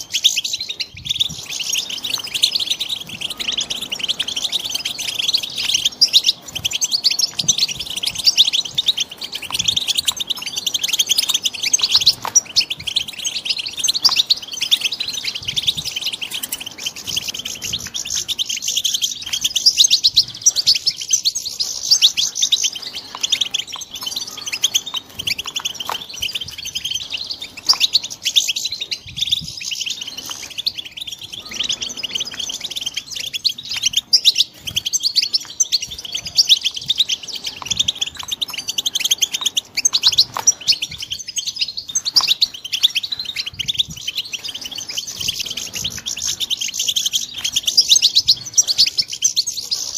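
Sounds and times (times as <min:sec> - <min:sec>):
finches twittering: 0:00.0 - 0:49.9.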